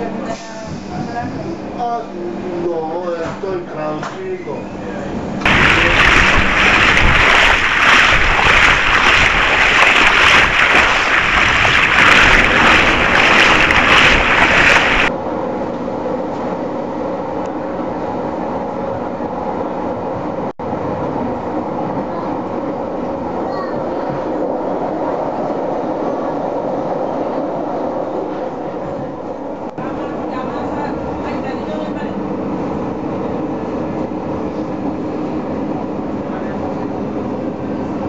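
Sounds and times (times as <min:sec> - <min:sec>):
train running noise inside: 0:00.0 - 0:07.4, 0:14.2 - 0:38.0.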